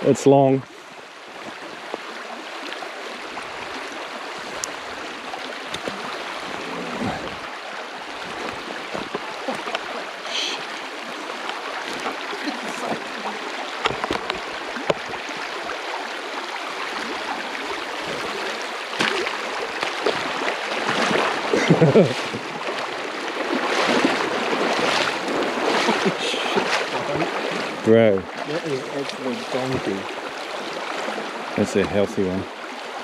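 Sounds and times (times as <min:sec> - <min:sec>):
river water rushing over stones: 0:00.0 - 0:33.0.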